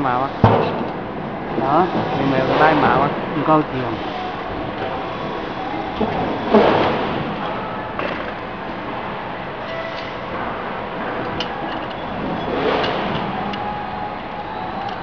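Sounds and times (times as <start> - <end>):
workshop noise: 0.0 - 15.0.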